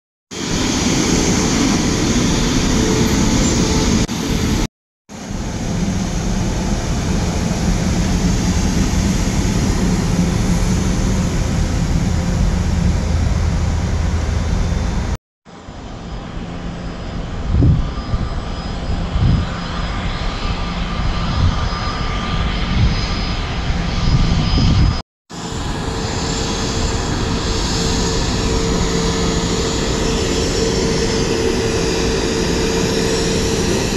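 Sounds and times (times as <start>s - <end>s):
jet engines rumbling and whining: 0.3s - 33.9s.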